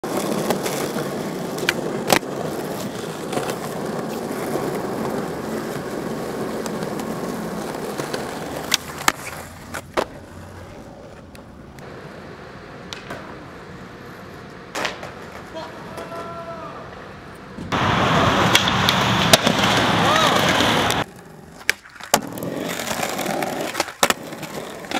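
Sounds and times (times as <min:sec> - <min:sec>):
skateboard clacking on ground: 0:00.0 - 0:17.8, 0:18.4 - 0:24.9
skateboard wheels rolling on asphalt: 0:00.0 - 0:24.9.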